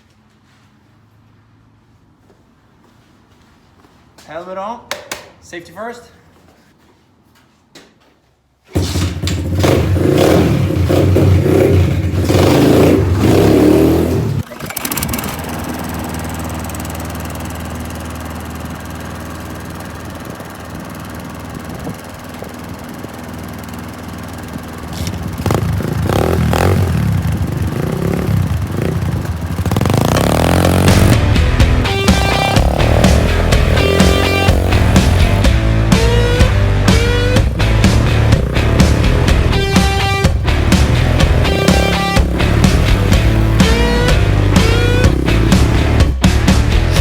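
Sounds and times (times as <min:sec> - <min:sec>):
pit bike engine revving: 0:09.0 - 0:47.0.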